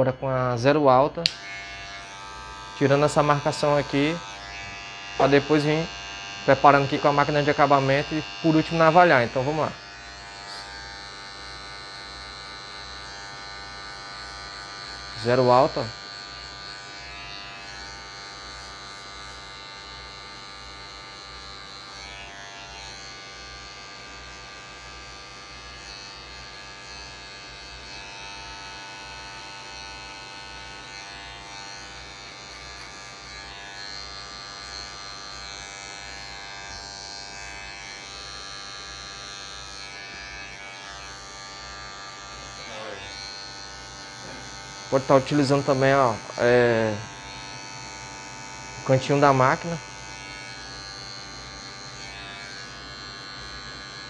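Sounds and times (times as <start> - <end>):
electric hair clipper running: 0.5 - 54.0.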